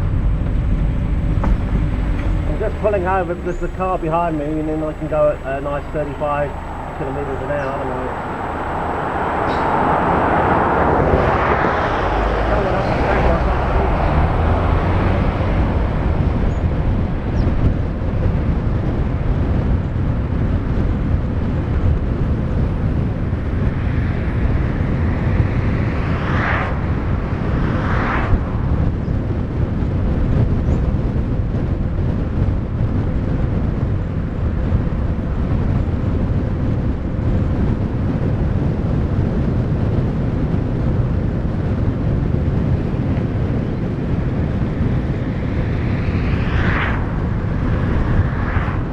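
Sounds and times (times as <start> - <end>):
wind and road noise: 0.0 - 48.9.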